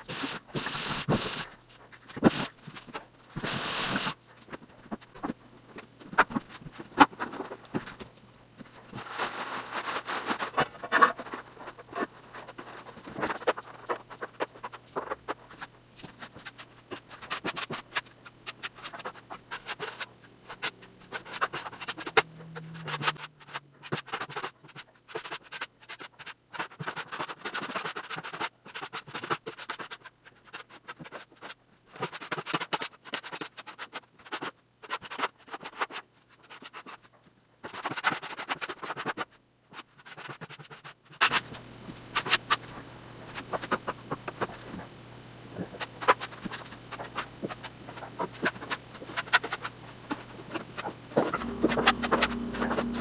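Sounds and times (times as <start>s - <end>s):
faint steady hum: 0.0s - 40.2s, 41.0s - 53.0s.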